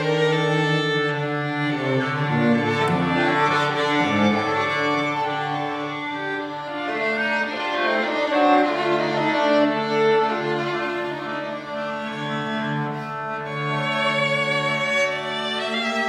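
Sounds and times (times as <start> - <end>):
cello low sustained notes: 0.0 - 16.0
string quartet playing: 0.0 - 16.0.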